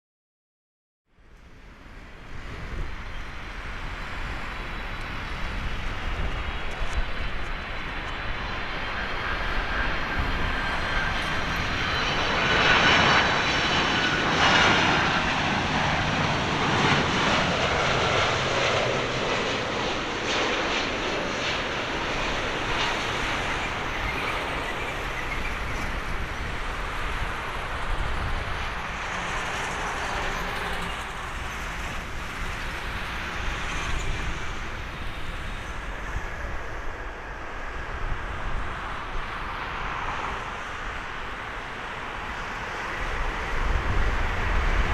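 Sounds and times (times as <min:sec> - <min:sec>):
jet engines whine and roar: 0:01.2 - 0:44.9.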